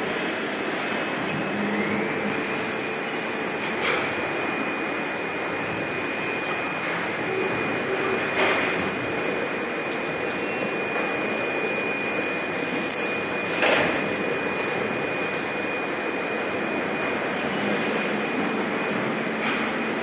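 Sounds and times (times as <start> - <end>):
workshop machinery noise: 0.0 - 20.0.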